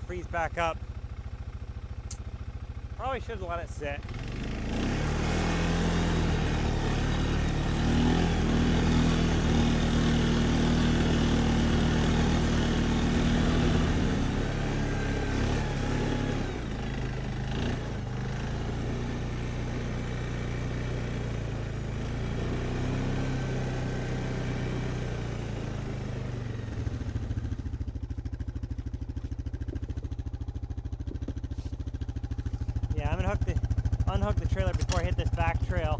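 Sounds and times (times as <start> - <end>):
off-road vehicle engine revving: 3.0 - 27.8, 31.0 - 35.9.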